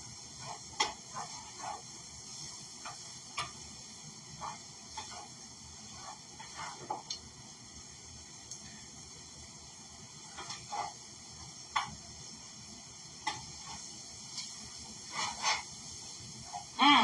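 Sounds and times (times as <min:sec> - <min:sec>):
chickpeas sizzling in a frying pan: 0:00.0 - 0:17.0.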